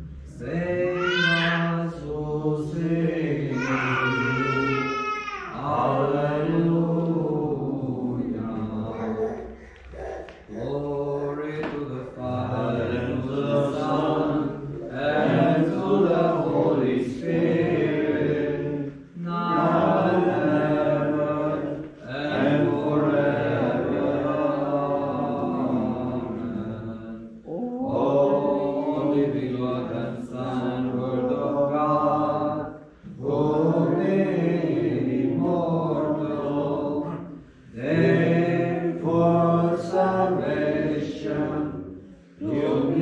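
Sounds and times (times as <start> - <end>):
voices chanting a hymn: 0.0 - 43.0.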